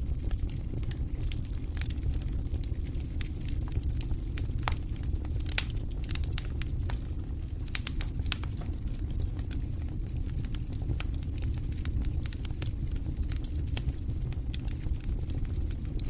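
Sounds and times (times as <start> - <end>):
campfire crackling: 0.0 - 16.0
sharp fire pops and snaps: 0.0 - 16.0
steady low rumble: 0.0 - 16.0.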